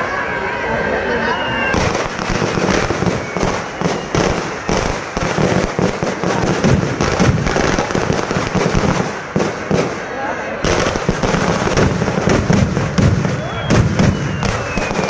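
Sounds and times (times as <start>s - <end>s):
firecrackers crackling and banging: 1.7s - 15.0s.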